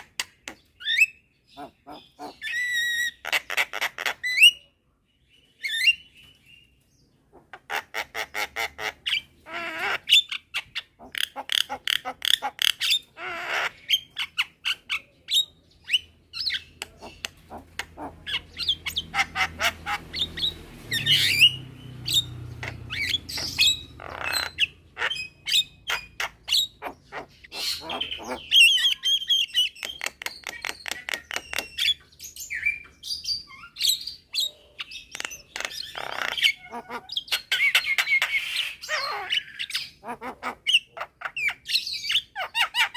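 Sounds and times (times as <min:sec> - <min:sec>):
mynas squawking and chattering: 0:00.8 - 0:04.6, 0:07.3 - 0:32.1, 0:33.7 - 0:42.9.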